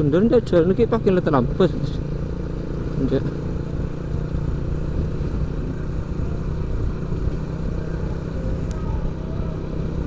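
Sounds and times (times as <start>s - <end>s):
motorcycle engine running: 0.0s - 10.0s
road noise: 0.0s - 10.0s.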